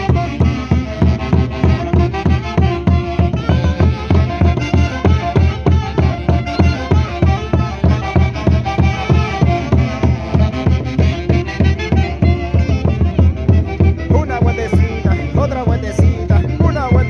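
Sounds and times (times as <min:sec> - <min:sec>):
fast low drum beat: 0:01.8 - 0:17.0.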